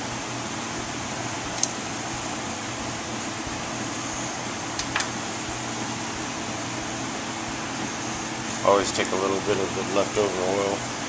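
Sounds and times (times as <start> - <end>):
fan hiss and hum: 0.0 - 11.0.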